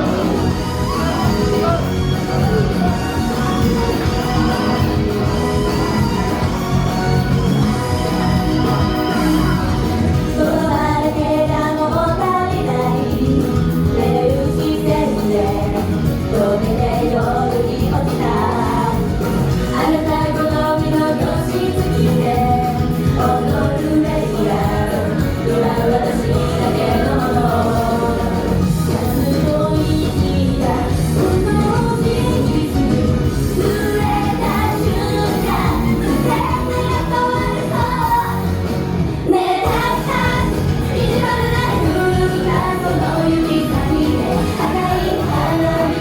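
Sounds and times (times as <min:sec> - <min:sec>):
loud amplified backing track: 0:00.0 - 0:46.0
women singing: 0:00.0 - 0:46.0.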